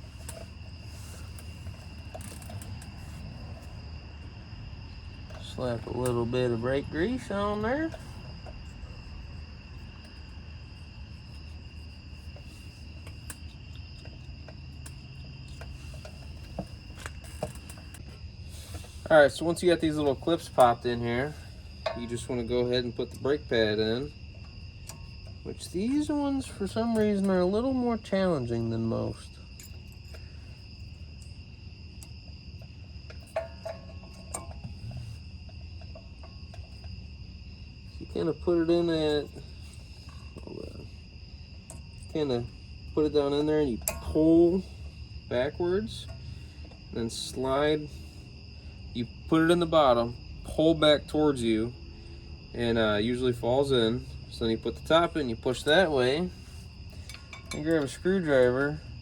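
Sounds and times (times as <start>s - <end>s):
light metallic clinks: 0.0s - 3.9s, 4.9s - 27.6s, 32.0s - 41.0s, 41.6s - 48.1s, 53.2s - 59.0s
crickets trilling: 0.0s - 59.0s.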